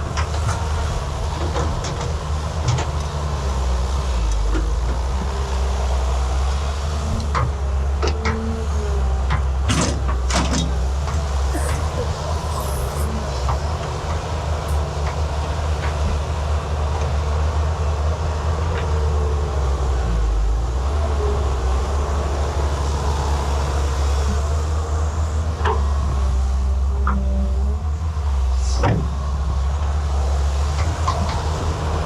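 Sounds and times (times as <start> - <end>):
excavator diesel engine rumbling: 0.0 - 32.0.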